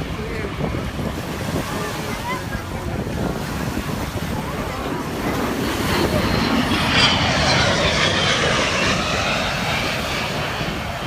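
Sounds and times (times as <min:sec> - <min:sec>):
airplane flying past: 0:00.0 - 0:11.0.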